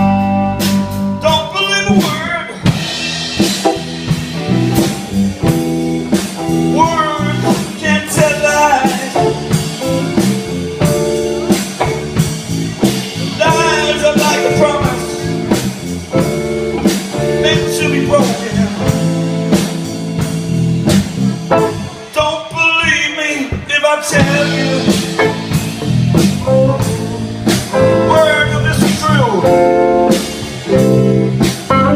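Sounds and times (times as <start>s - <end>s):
live blues-rock band playing: 0.0s - 31.9s.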